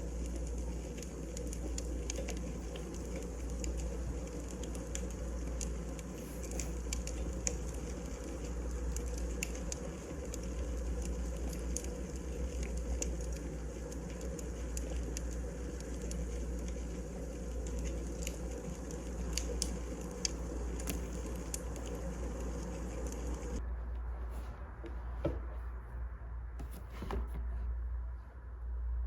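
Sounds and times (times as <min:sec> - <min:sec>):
wood fire crackling: 0:00.0 - 0:25.2
low steady hum: 0:00.0 - 0:29.0.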